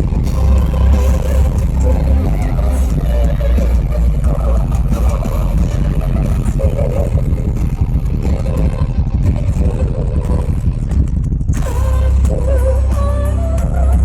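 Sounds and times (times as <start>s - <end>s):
live metal band: 0.0s - 14.0s.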